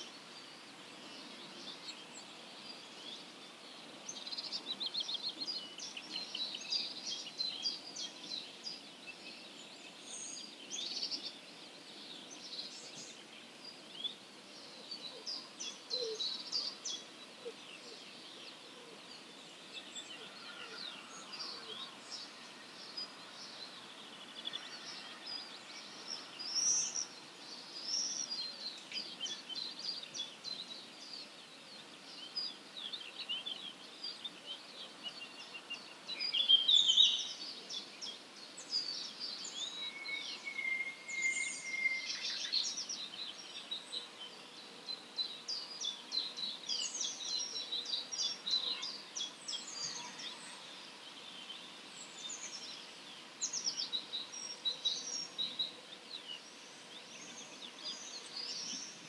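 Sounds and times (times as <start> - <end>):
faint background hiss: 0.0 - 59.0
songbirds chirping and trilling: 0.0 - 59.0.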